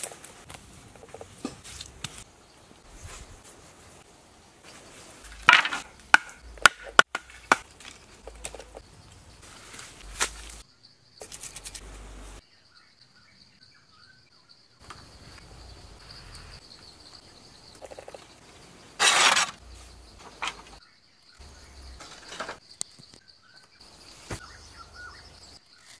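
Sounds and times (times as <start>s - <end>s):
forest ambience: 0.0s - 26.0s.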